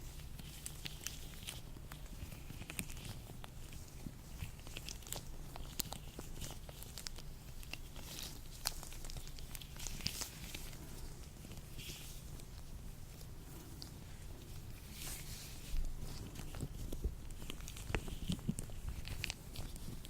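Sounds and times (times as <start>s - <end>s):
latex gloves rubbing: 0.0s - 20.0s.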